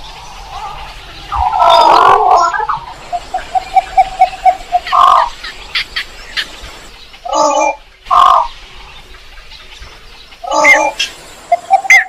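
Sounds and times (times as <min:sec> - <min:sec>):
hoarse bird calls: 0:00.0 - 0:12.0.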